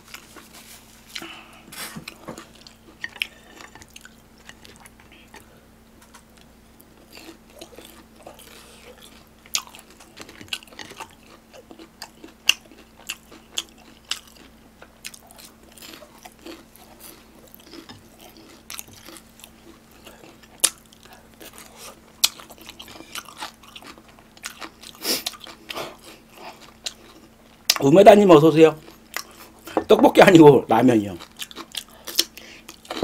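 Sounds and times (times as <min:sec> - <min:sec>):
person chewing crunchy food: 0:00.0 - 0:27.9, 0:28.8 - 0:30.4, 0:31.0 - 0:33.0
faint steady hum: 0:00.0 - 0:33.0.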